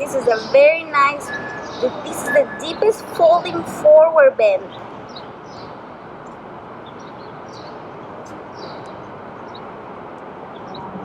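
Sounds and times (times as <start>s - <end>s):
small birds chirping: 0.0s - 9.7s
outdoor ambience: 0.0s - 11.0s.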